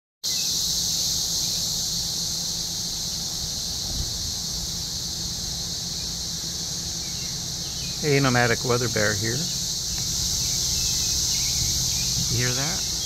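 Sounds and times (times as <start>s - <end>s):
cicadas droning: 0.2s - 13.0s.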